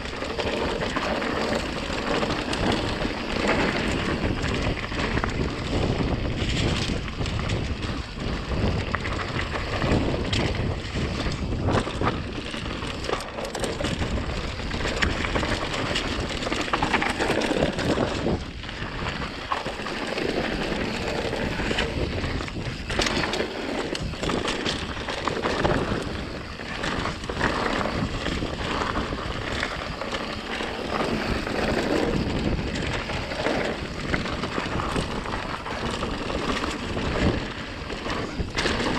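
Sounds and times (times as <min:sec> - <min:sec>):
bike clattering over bumps: 0:00.0 - 0:38.9
bike tyres rolling over dirt: 0:00.0 - 0:38.9
wind buffeting microphone: 0:00.0 - 0:38.9.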